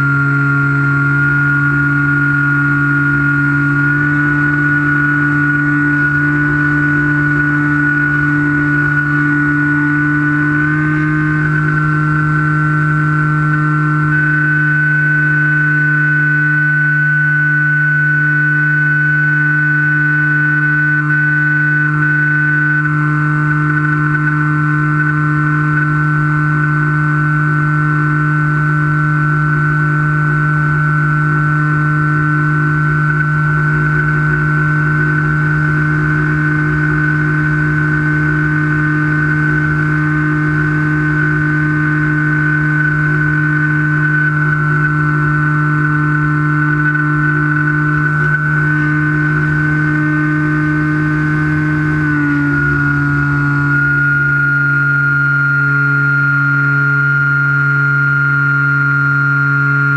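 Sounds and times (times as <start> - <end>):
model plane motor whining: 0.0 - 59.9.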